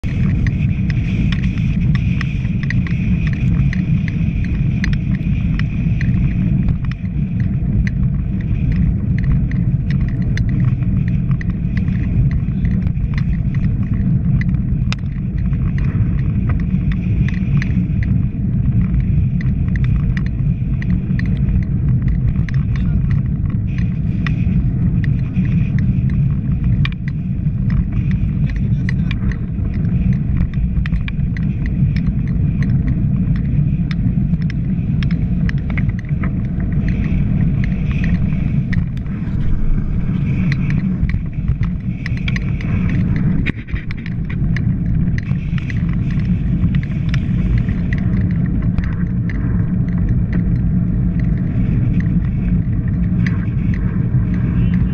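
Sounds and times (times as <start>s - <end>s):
wind buffeting microphone: 0.0s - 54.9s
light ticks: 0.1s - 54.9s.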